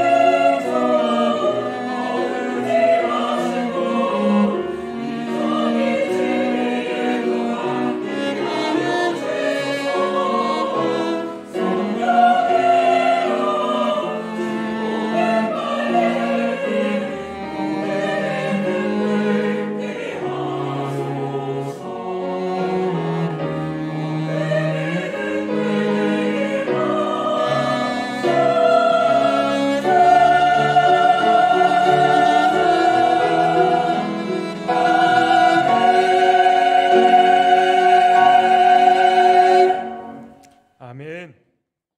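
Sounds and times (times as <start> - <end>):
choir singing in harmony: 0.0 - 40.4
piano and strings: 0.0 - 40.6.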